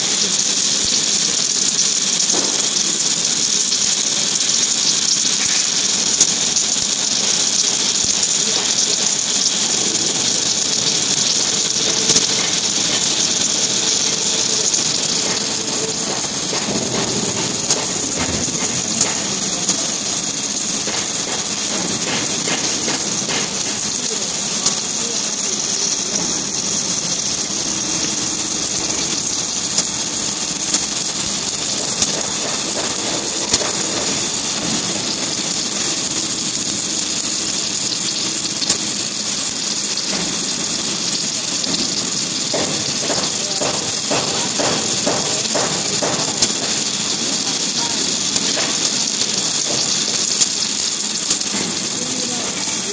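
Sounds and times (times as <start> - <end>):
sharp welding clicks: 0.0 - 52.9
welding machine hissing: 0.0 - 52.9.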